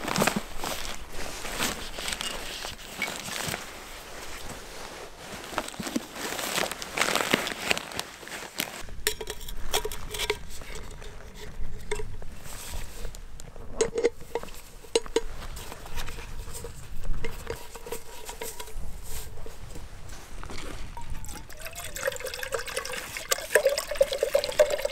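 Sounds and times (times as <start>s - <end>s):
rustling and crunching: 0.0s - 24.9s.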